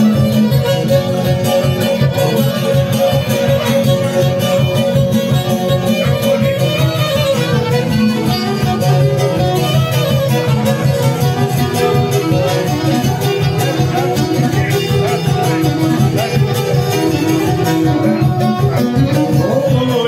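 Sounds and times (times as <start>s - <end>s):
folk band playing: 0.0s - 20.0s
strummed tamburica: 0.0s - 20.0s
violin melody: 0.0s - 20.0s.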